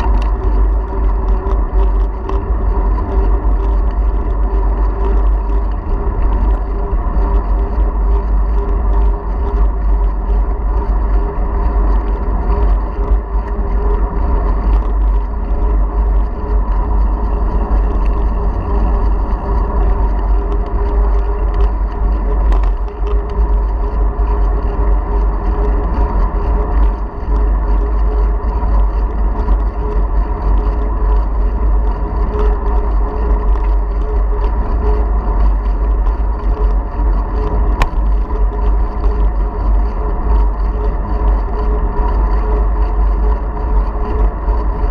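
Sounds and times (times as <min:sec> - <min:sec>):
constant hum: 0:00.0 - 0:44.9
wind buffeting microphone: 0:00.0 - 0:44.9.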